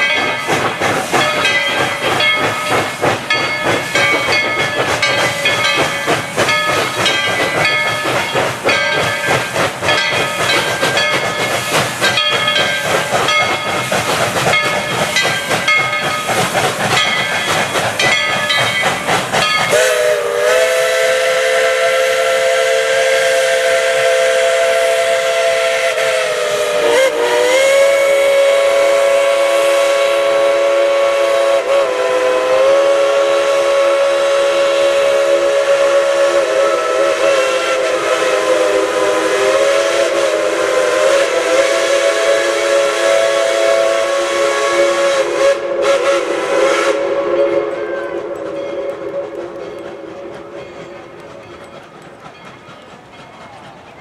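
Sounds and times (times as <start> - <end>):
steam locomotive whistle: 0.0 - 54.0.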